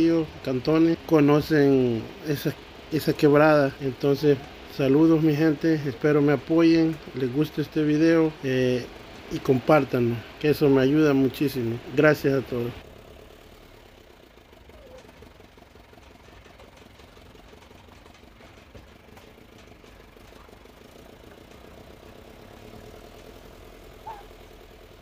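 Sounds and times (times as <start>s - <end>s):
faint engine running: 0.0s - 25.0s.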